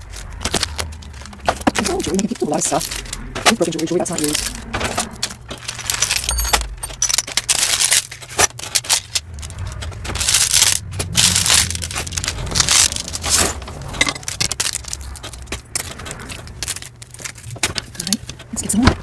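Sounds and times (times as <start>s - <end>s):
jewelry clinking and scraping: 0.0s - 19.0s.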